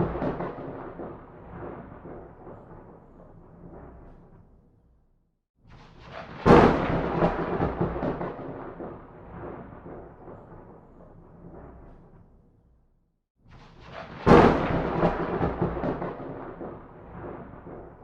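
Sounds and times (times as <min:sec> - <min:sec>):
thunderclap with rolling rumbles: 0:00.0 - 0:04.8, 0:05.8 - 0:12.6, 0:13.6 - 0:18.0.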